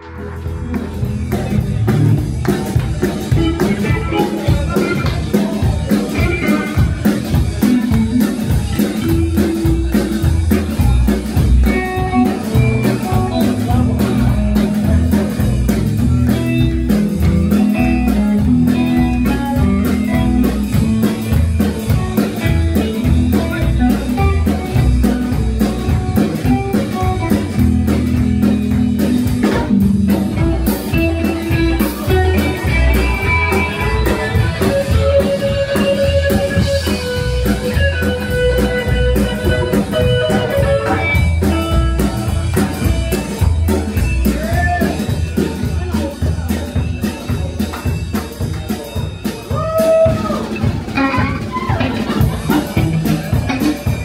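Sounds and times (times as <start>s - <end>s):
plucked double bass: 0.0s - 49.2s, 50.6s - 54.0s
drums: 0.0s - 54.0s
electric guitar: 0.0s - 54.0s.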